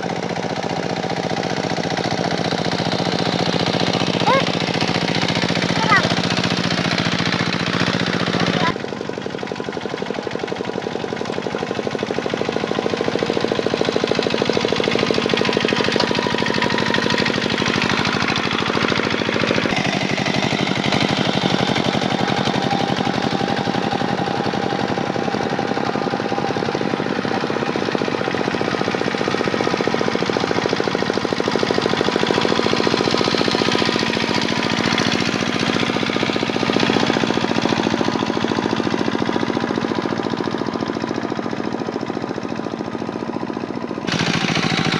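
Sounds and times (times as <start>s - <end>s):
tractor diesel engine under load: 0.0s - 44.9s
fast knocking rattle: 0.1s - 44.9s.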